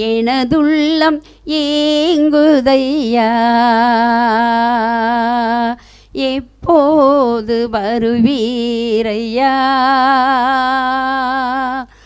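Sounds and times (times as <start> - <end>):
woman singing worship song: 0.0 - 12.0.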